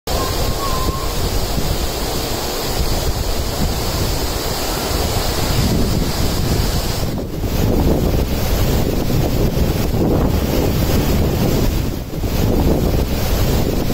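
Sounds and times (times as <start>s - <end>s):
waterfall rushing: 0.0s - 13.9s
wind buffeting microphone: 0.0s - 13.9s.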